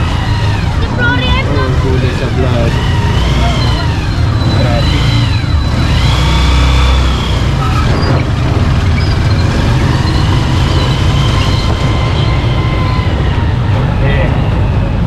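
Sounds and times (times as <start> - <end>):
motorcycle engine rumbling: 0.0 - 15.0
road noise: 0.0 - 15.0.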